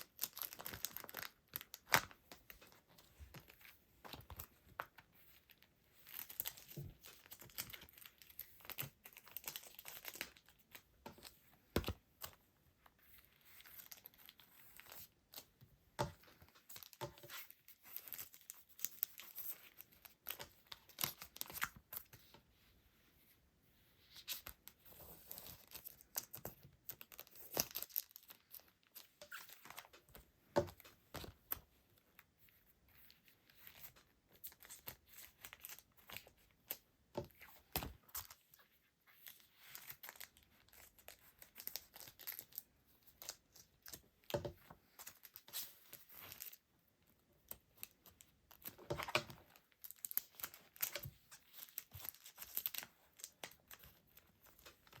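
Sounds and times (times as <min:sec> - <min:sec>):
plastic and paper crinkling: 0:00.0 - 0:22.6, 0:24.0 - 0:55.0.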